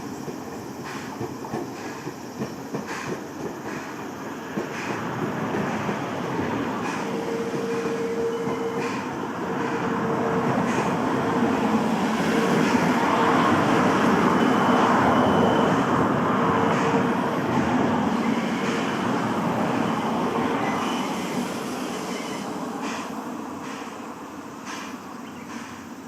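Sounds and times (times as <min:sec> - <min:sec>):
steam train rolling past: 0:00.0 - 0:26.0.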